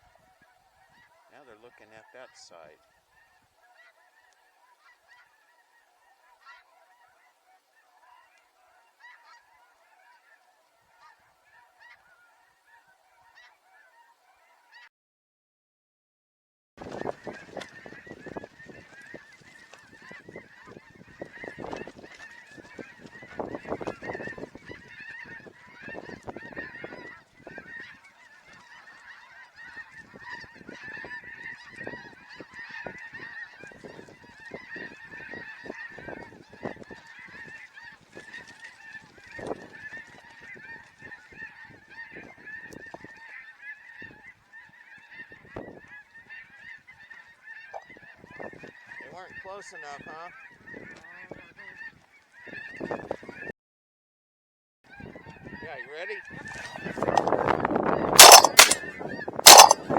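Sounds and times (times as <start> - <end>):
flock of geese honking: 0.0 - 14.9, 16.8 - 53.5, 54.9 - 59.9.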